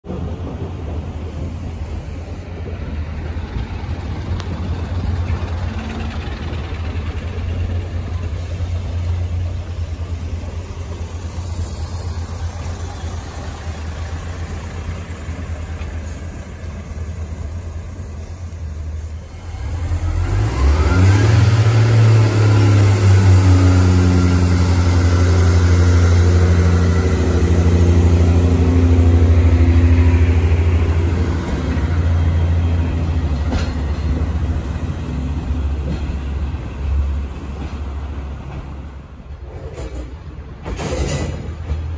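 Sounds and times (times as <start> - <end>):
diesel railbus engine: 0.0 - 41.9.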